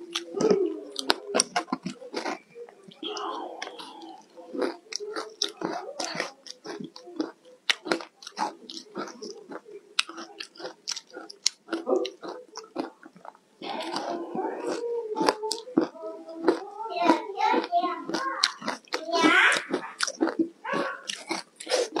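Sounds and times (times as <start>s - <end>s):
crunching ice chewing: 3.0s - 22.0s.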